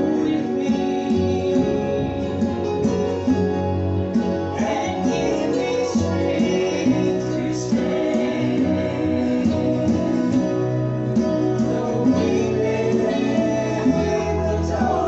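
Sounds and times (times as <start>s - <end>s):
strummed guitar: 0.0s - 15.0s
voices singing gospel: 0.0s - 15.0s.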